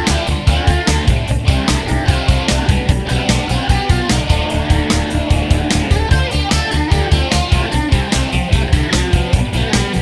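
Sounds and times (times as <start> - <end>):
rock music with guitar and drums: 0.0 - 10.0.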